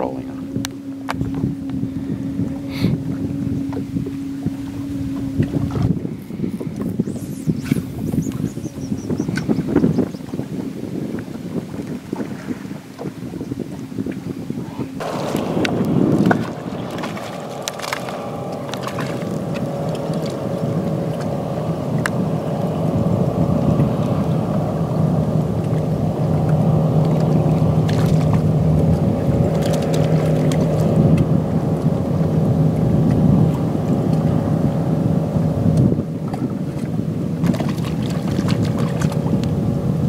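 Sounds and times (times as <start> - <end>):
boat motor humming: 0.0 - 40.0.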